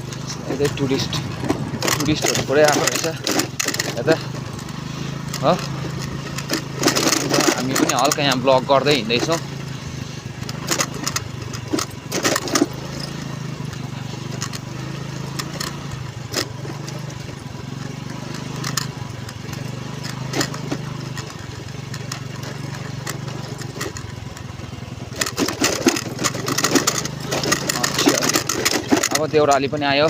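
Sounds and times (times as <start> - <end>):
knocks and rattles: 0.0 - 9.6, 10.3 - 30.0
small engine running: 0.0 - 30.0.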